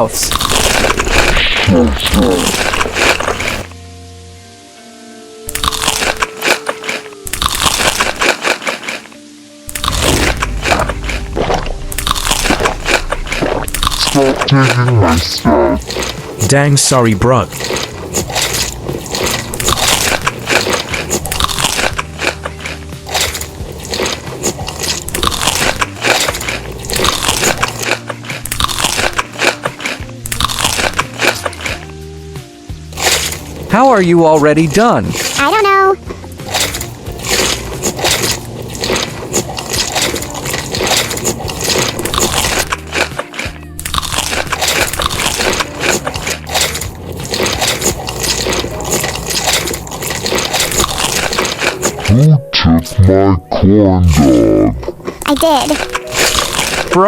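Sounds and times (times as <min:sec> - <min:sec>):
crunchy food chewing: 0:00.0 - 0:03.8, 0:05.5 - 0:52.3, 0:54.0 - 0:57.0
background music: 0:00.0 - 0:57.0.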